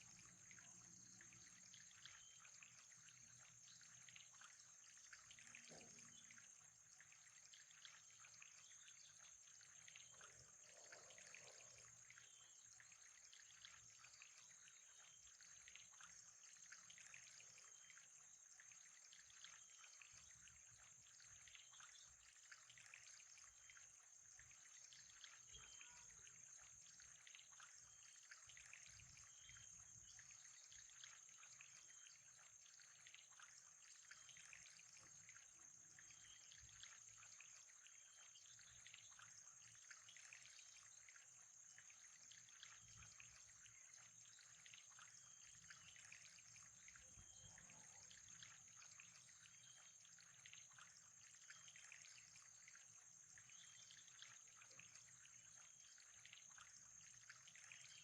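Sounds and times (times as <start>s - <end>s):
faint trickling water: 0.0s - 58.0s.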